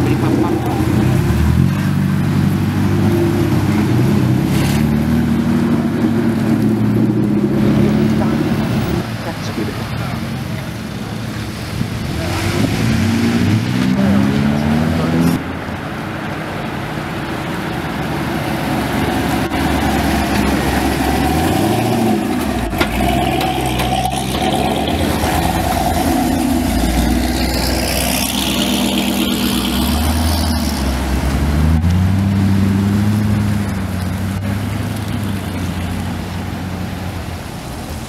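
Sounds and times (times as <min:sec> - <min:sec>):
cars revving past: 0:00.0 - 0:38.0.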